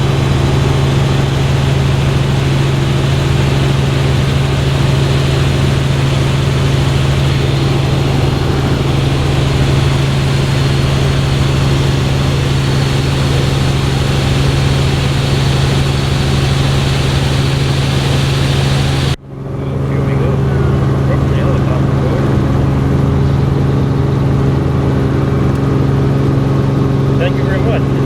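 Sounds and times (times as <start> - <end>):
helicopter rotor and engine drone: 0.0 - 28.0.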